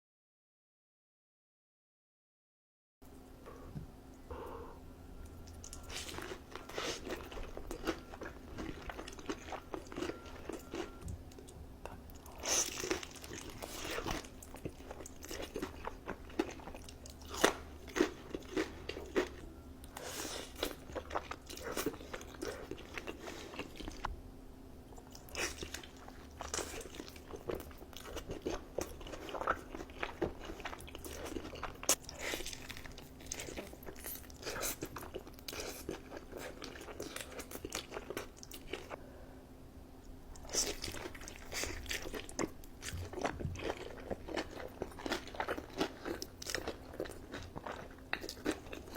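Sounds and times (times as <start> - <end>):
person chewing crunchy food: 4.3 - 24.1, 25.0 - 39.0, 40.3 - 48.9.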